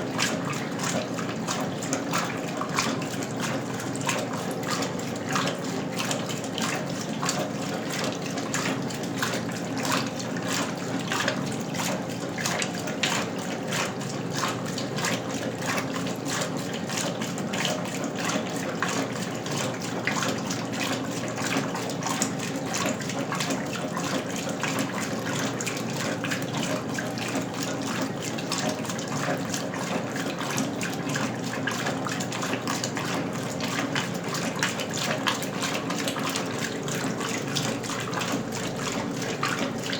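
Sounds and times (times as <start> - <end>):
water splashing in washing machine: 0.0 - 39.9.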